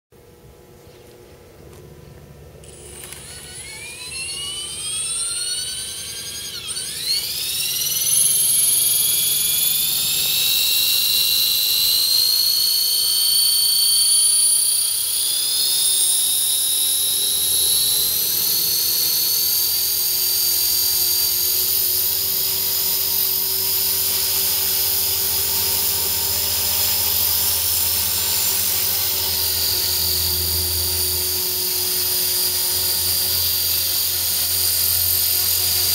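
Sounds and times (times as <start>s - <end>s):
rc helicopter motor whine: 2.4s - 35.9s.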